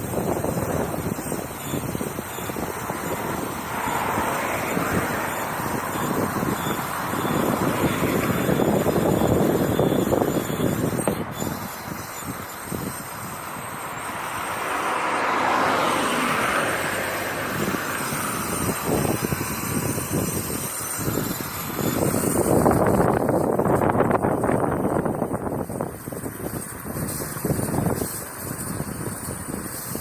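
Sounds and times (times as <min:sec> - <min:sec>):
car tyre and road noise: 0:00.0 - 0:30.0.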